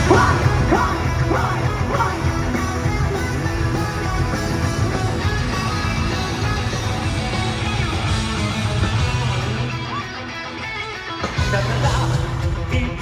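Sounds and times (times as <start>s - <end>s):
guitar rising slides: 0.0s - 12.6s
rock band playing: 0.0s - 13.0s.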